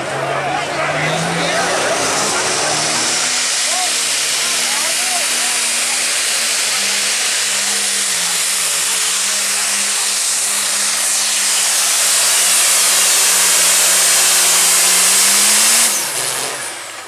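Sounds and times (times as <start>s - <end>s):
diesel engine screaming: 0.0s - 17.0s.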